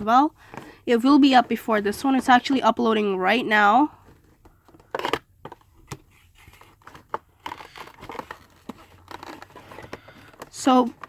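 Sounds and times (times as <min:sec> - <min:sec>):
handling cardboard and plastic packaging: 0:00.0 - 0:11.0.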